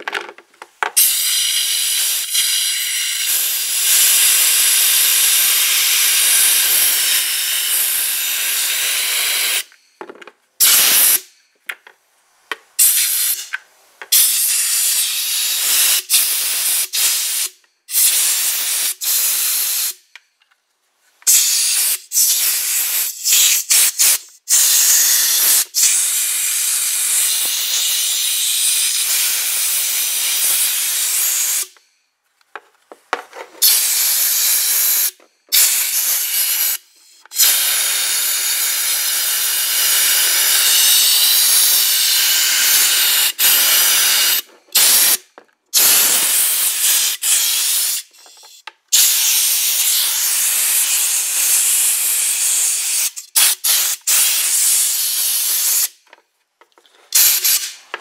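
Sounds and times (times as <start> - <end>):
compressed air hissing: 1.0 - 9.7, 10.6 - 11.4, 12.8 - 20.1, 21.2 - 31.8, 33.6 - 56.0, 57.1 - 57.9.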